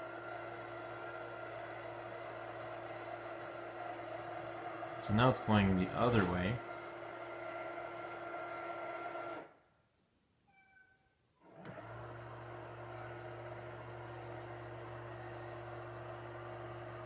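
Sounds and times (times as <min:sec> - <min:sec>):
motor humming with high whine: 0:00.0 - 0:09.6, 0:11.4 - 0:17.0.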